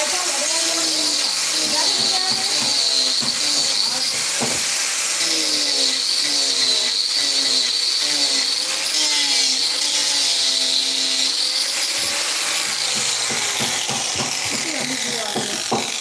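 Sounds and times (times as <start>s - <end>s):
angle grinder whining: 0.0s - 16.0s.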